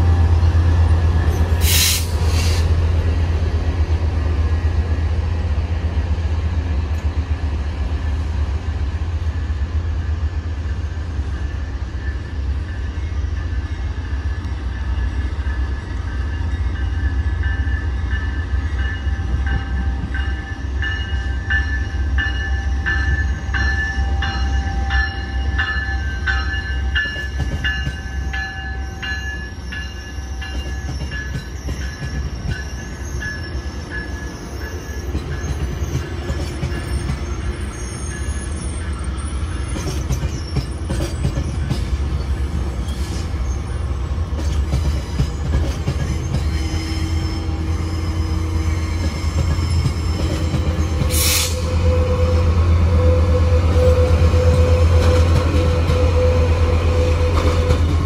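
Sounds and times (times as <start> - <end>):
railcars rumbling past: 0.0 - 58.0.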